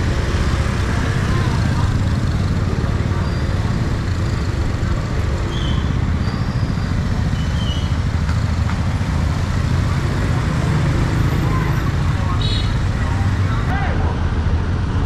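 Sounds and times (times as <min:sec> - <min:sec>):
motorbike and car engines: 0:00.0 - 0:15.0.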